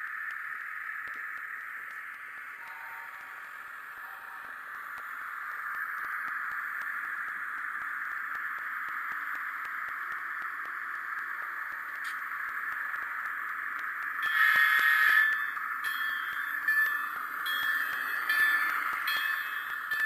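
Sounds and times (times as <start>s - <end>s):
model train running on track: 0.0s - 20.0s
steady tones: 0.0s - 20.0s.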